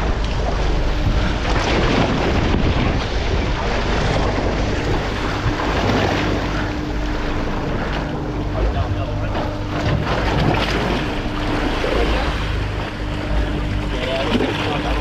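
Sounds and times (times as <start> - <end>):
faint steady hum: 0.0 - 15.0
sea washing against boat: 0.0 - 15.0
wind buffeting microphone: 0.0 - 15.0.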